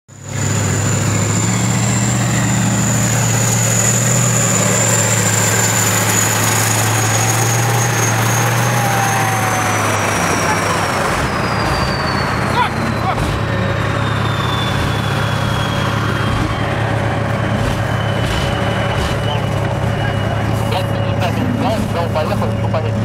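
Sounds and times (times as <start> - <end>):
heavy vehicle engine droning: 0.1 - 23.0.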